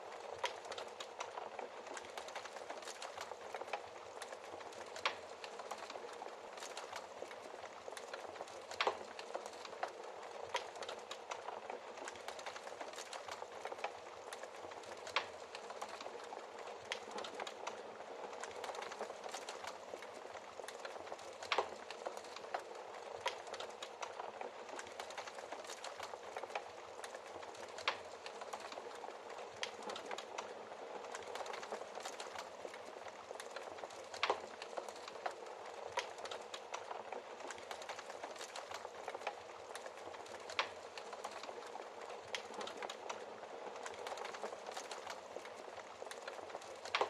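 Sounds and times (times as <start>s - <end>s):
wood fire crackling: 0.0s - 47.0s
fire pops: 0.2s - 17.8s, 18.4s - 47.0s.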